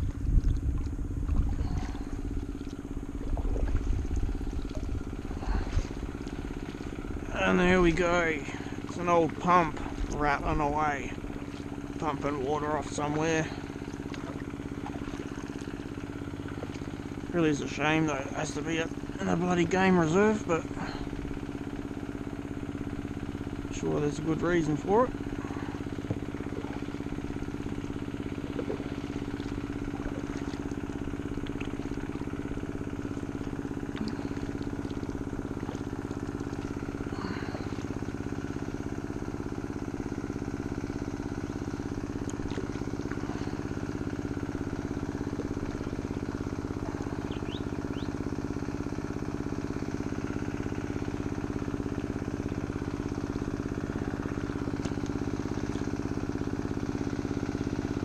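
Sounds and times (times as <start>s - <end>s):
water pump engine rattling: 0.0s - 58.0s.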